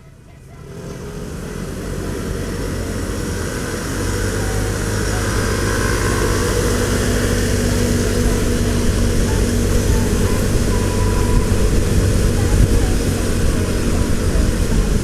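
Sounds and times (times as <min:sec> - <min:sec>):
motorcycle engine hum: 0:00.0 - 0:15.0
wind and road noise: 0:00.0 - 0:15.0.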